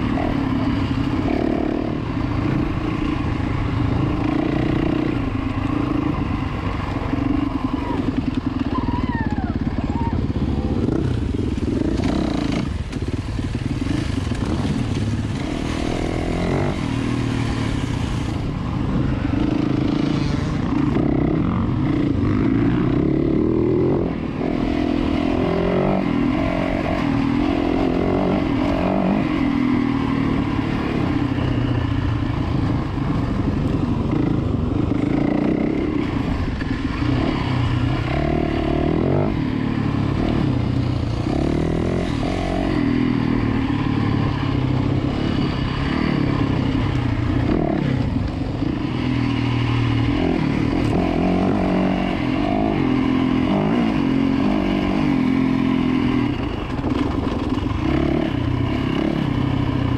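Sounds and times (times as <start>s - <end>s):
dirt bike engine revving: 0.0s - 8.7s, 10.2s - 59.9s.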